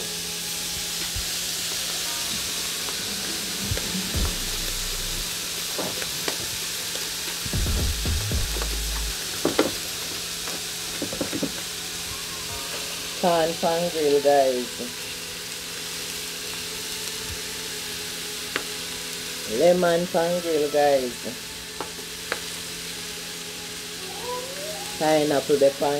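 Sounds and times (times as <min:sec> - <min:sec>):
fish sizzling on a griddle pan: 0:00.0 - 0:07.6, 0:08.5 - 0:25.9.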